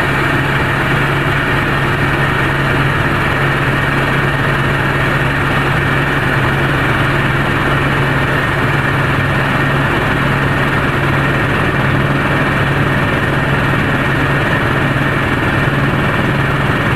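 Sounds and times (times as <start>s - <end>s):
helicopter turbine and rotor: 0.0s - 16.9s.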